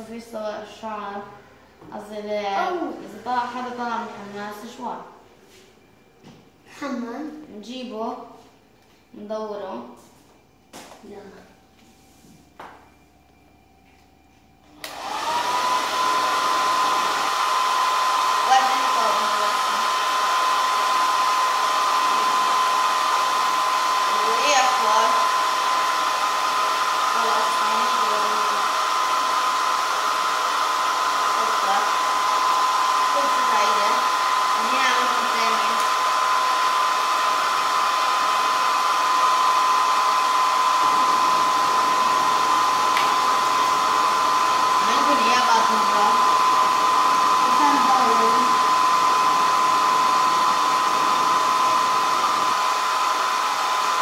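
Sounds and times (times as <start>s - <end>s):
hair dryer running: 0.0s - 6.4s, 11.7s - 54.0s.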